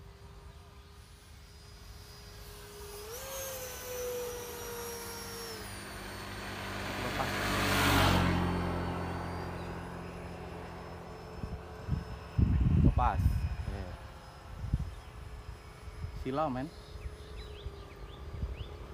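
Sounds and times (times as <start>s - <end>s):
electric ducted fan whining: 0.0s - 18.9s.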